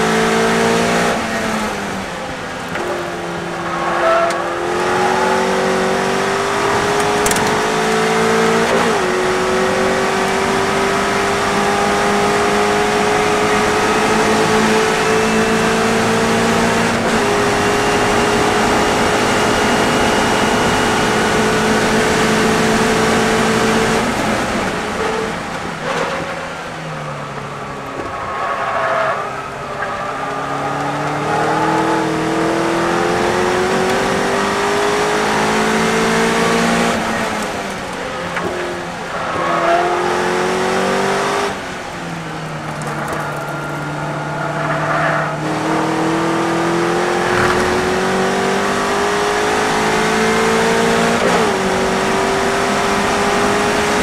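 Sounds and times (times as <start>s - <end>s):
racing car engine revving: 0.0s - 54.0s
wind and road rush: 0.0s - 54.0s.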